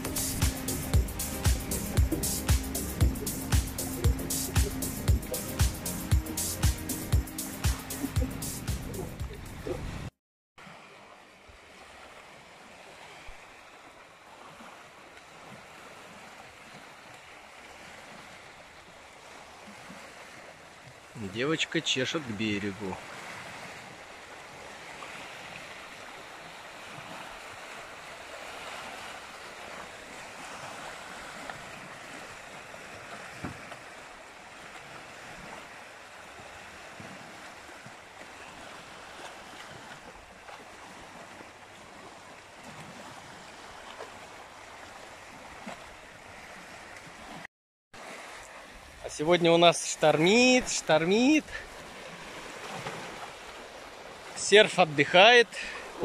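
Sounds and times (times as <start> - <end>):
river waves splashing: 0.0 - 56.0
wind: 0.0 - 56.0.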